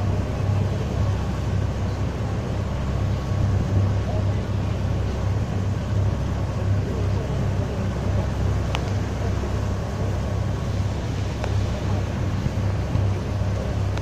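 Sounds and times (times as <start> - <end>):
ferry engine droning: 0.0 - 14.0
rushing wake water: 0.0 - 14.0
wind: 0.0 - 14.0.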